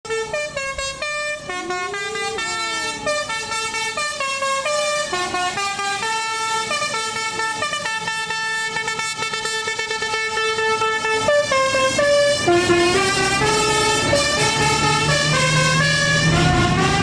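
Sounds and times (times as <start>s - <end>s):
bus musical horn melody: 0.1s - 17.0s.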